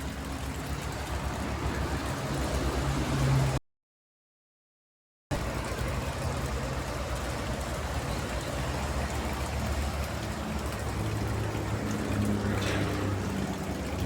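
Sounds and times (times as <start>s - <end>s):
rain drumming on water tank: 0.0s - 3.6s, 5.3s - 14.0s.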